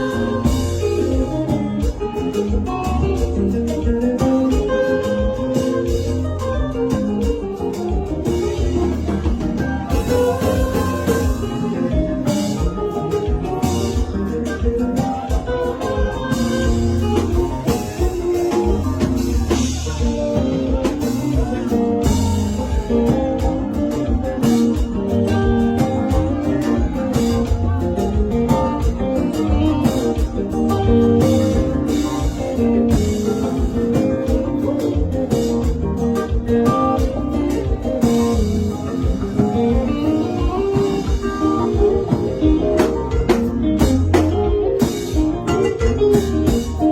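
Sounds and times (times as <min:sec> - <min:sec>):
bass guitar: 0:00.0 - 0:46.9
drums beating: 0:00.0 - 0:46.9
electric guitar solo: 0:00.0 - 0:46.9.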